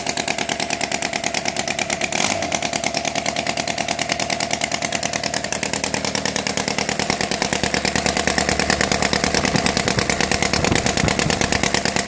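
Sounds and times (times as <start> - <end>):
boxer engine running: 0.0 - 12.0.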